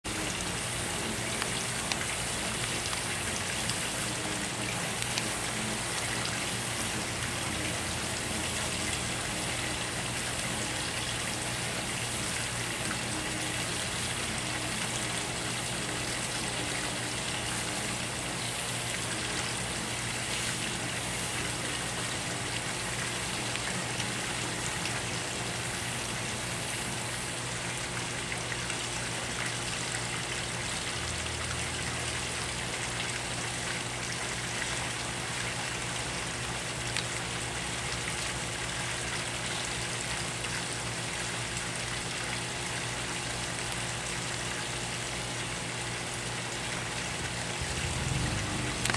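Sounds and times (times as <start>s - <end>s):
water-like sound: 0.0s - 38.5s, 39.2s - 48.9s.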